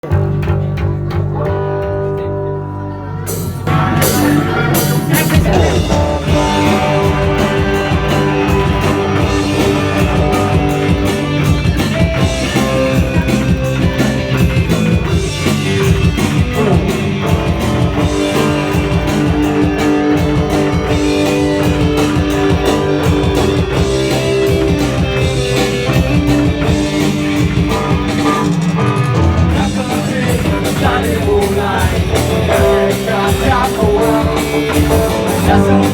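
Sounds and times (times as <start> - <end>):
electric guitar: 0.0 - 35.9
live rock band playing: 0.0 - 35.9
drum kit beat: 3.3 - 35.9.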